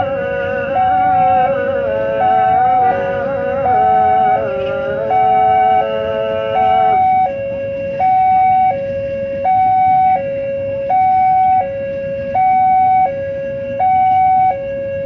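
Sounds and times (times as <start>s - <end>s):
two-tone electronic siren: 0.0s - 15.0s.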